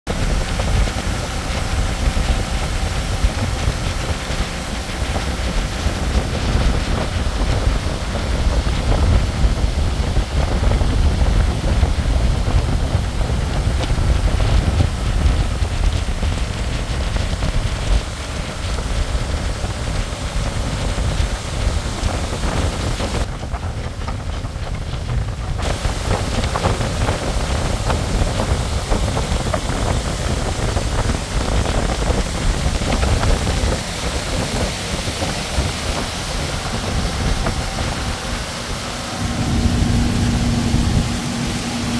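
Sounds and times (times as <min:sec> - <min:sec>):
outboard motor humming: 0:00.1 - 0:41.9
water rushing past hull: 0:00.1 - 0:41.9
wind buffeting microphone: 0:00.1 - 0:41.9.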